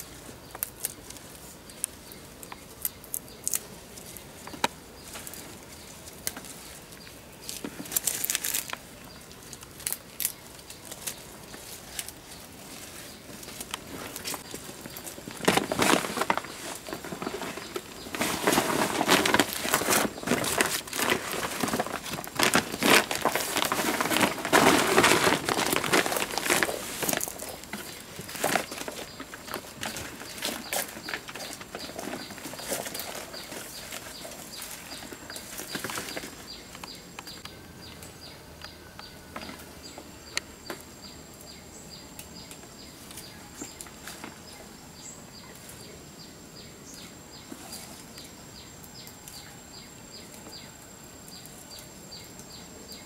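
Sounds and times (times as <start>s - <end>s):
undergrowth rustling and crackling: 0.0s - 46.0s.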